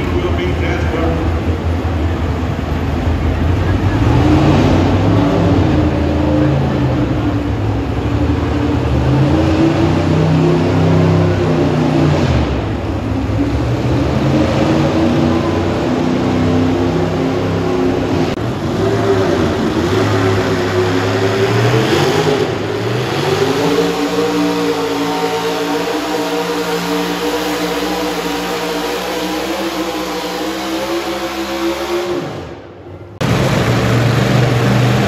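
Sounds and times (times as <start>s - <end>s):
tractor engine straining: 0.0s - 35.0s.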